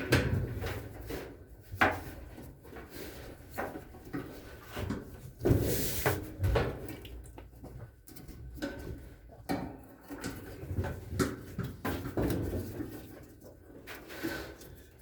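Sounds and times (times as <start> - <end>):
clunks and knocks of dryer parts: 0.0 - 2.8, 3.4 - 7.0, 7.6 - 13.4.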